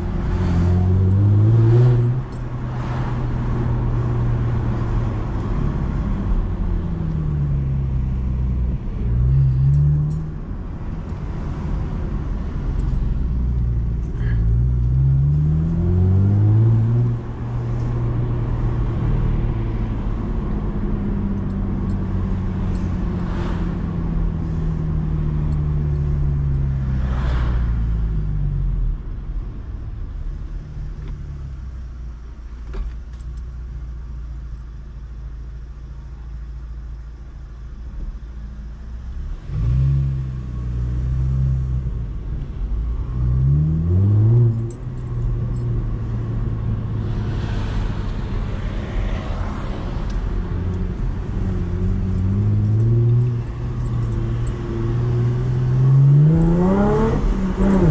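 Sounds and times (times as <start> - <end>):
car engine revving and idling: 0.0 - 29.4, 30.0 - 57.9.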